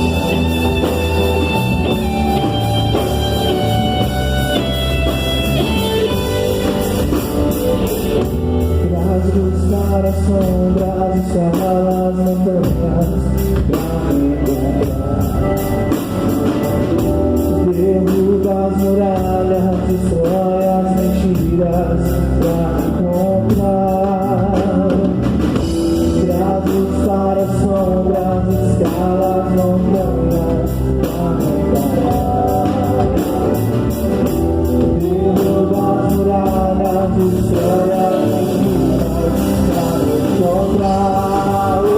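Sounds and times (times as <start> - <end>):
bass guitar: 0.0 - 41.9
drum kit: 0.0 - 41.9
electric guitar: 0.0 - 41.9
person singing: 0.0 - 41.9
worship band playing: 0.0 - 41.9.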